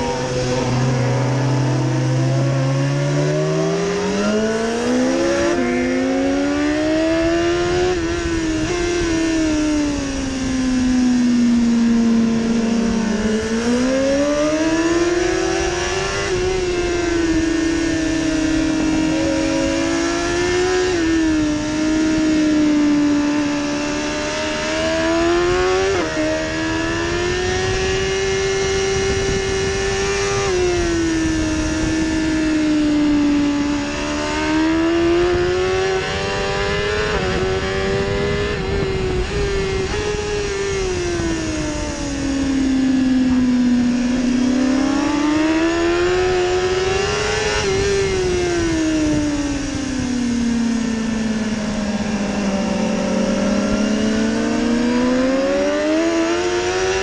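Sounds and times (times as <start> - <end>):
wind rush: 0.0 - 55.9
motorcycle engine revving high: 0.0 - 57.0.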